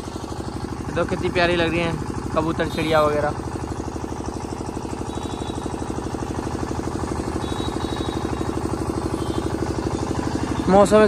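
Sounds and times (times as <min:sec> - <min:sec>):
generator engine chugging: 0:00.0 - 0:11.0.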